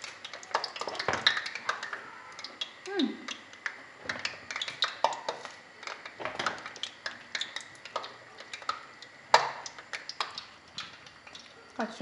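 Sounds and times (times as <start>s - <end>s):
oil crackling and popping: 0.0s - 11.8s.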